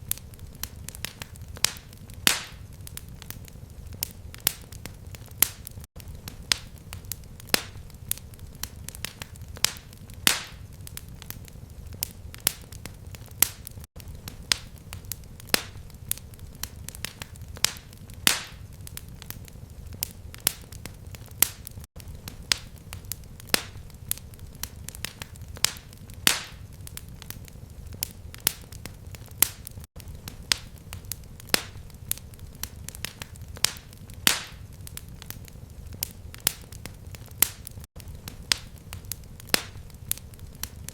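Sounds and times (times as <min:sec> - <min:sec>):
fire crackling and popping: 0:00.0 - 0:40.9
low rumble of flame: 0:00.0 - 0:40.9.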